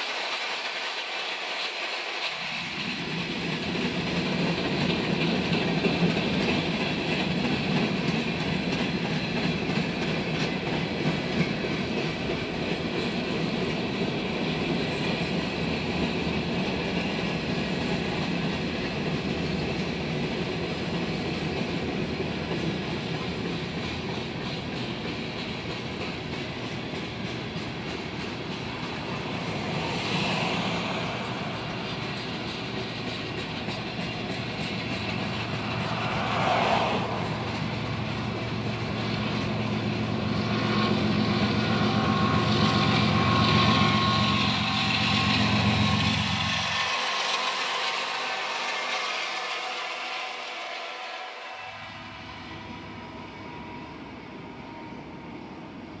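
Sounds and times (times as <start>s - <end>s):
freight train rolling by: 0.0s - 56.0s.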